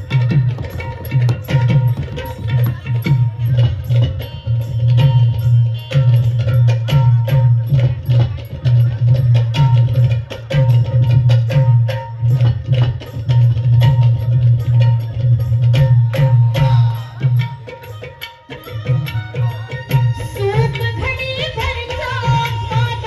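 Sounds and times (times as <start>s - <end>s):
dholki drum rhythm: 0.0s - 23.0s.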